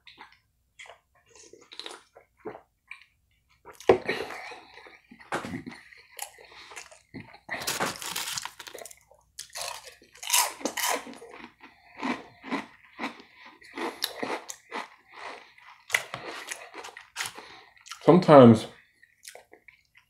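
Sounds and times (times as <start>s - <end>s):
person chewing crunchy food: 0.0s - 18.1s, 18.8s - 20.0s.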